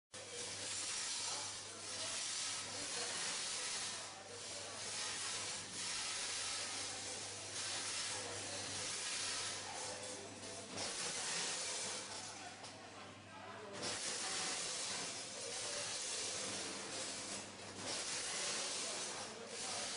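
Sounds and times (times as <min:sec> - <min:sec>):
packaging machine hissing: 0:00.2 - 0:12.5, 0:13.8 - 0:19.9.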